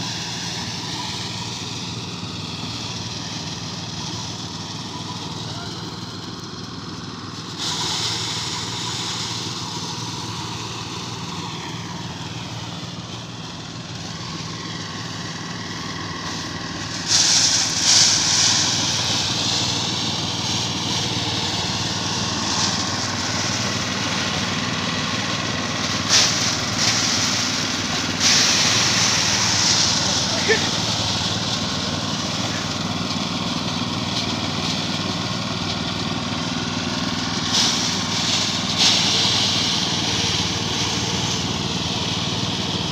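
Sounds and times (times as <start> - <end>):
rice thresher engine running: 0.0 - 42.9
rushes of threshing noise: 7.4 - 42.9.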